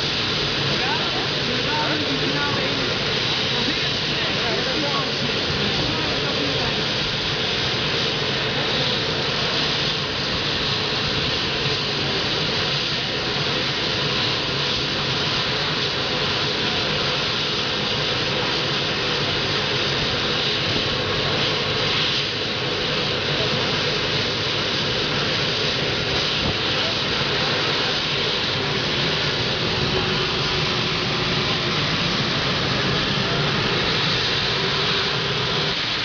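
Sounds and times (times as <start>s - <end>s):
tractor engine at high power: 0.0s - 36.0s.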